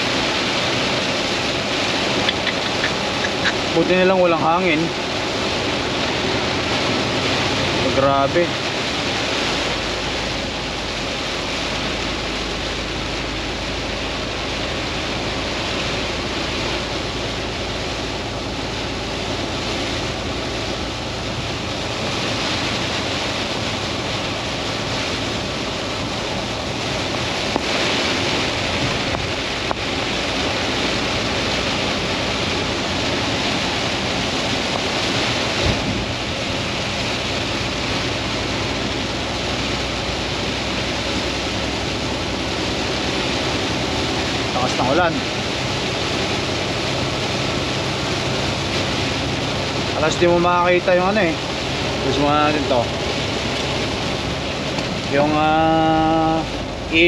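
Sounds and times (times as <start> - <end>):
heavy rain on truck cab: 0.0 - 57.0
truck road noise: 0.0 - 57.0.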